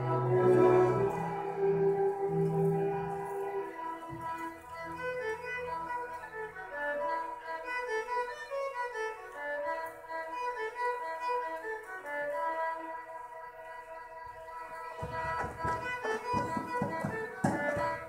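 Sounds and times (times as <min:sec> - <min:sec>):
low strings: 0:00.0 - 0:18.0
violins playing a melody: 0:00.0 - 0:18.0.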